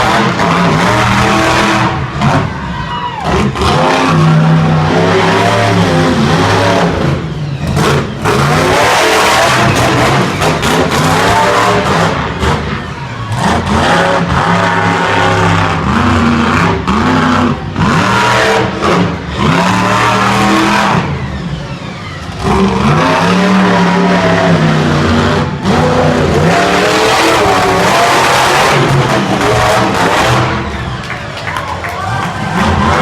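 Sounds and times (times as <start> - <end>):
monster truck engine revving: 0.0 - 33.0.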